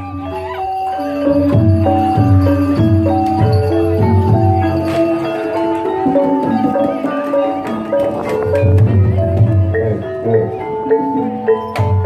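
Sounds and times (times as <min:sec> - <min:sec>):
metallophones ringing: 0:00.0 - 0:12.0.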